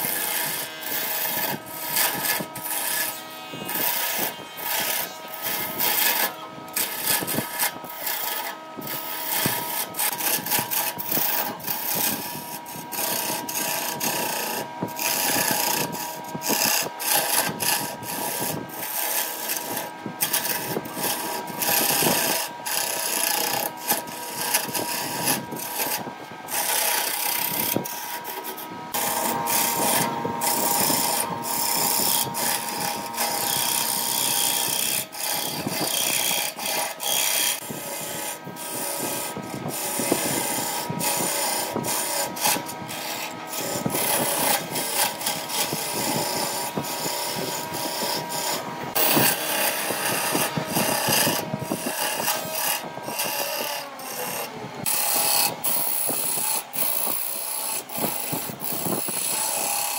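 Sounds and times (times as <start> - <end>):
chisel scraping spinning wood: 0.0 - 59.9
lathe whine: 0.0 - 59.9.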